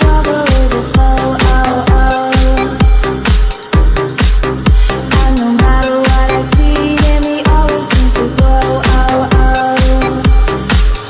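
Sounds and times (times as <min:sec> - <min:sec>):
held synth notes: 0:00.0 - 0:11.0
kick drum beat: 0:00.0 - 0:11.0.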